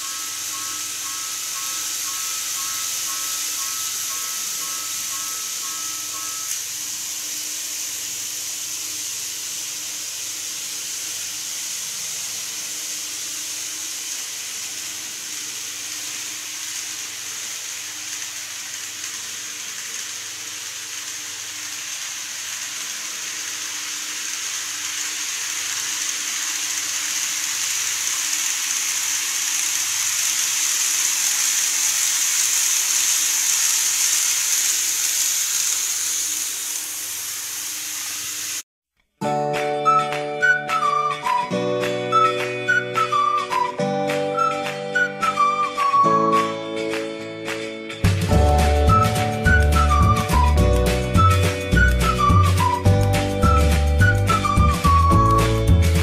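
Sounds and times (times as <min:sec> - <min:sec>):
model train motor whirring: 0:00.0 - 0:38.6, 0:40.4 - 0:46.4, 0:48.0 - 0:56.0.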